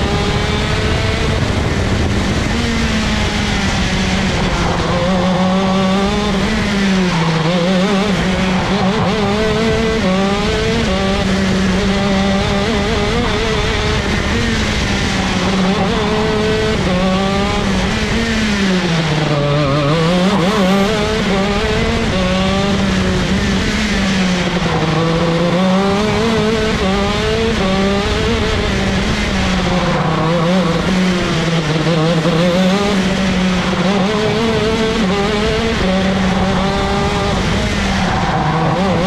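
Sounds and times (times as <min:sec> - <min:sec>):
kart engine running hard: 0:00.0 - 0:39.0.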